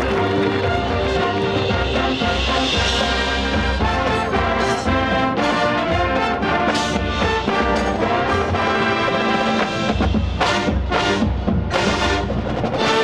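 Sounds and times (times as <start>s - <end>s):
drumline hits: 0.0s - 13.0s
marching band playing: 0.0s - 13.0s.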